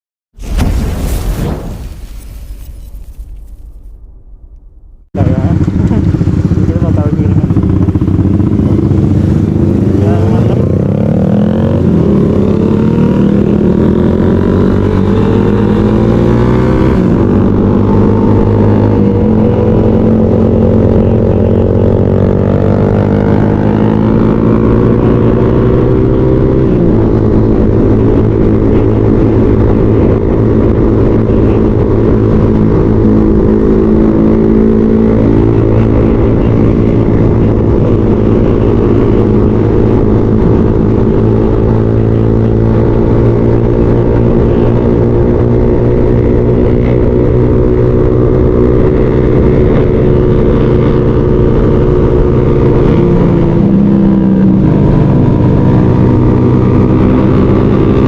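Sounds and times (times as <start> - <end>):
motorcycle engine accelerating: 2.8 - 58.0.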